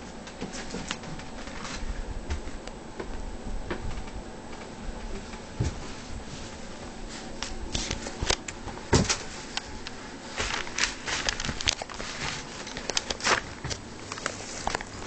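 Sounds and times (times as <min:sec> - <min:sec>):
rustling close to microphone: 0:00.4 - 0:02.6, 0:04.9 - 0:15.0.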